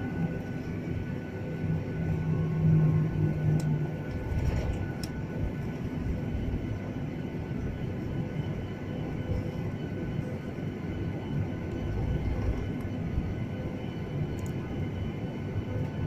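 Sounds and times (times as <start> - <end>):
jet engines and airflow rumble: 0.0 - 16.0.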